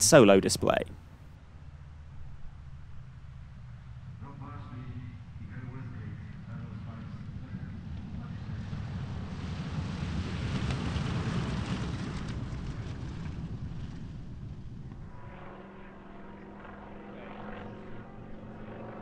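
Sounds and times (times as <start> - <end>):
steady engine drone: 0.0 - 11.4, 12.2 - 19.0
propeller plane passing: 0.0 - 19.0.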